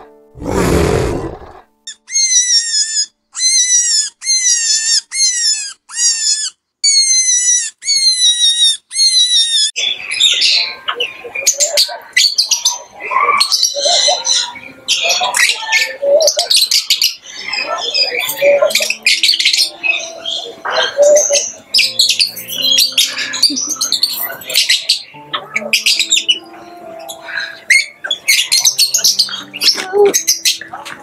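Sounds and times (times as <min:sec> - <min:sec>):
guinea pigs wheeking: 0:00.8 - 0:26.4, 0:27.1 - 0:30.8
lovebirds chattering and chirping: 0:01.9 - 0:31.0.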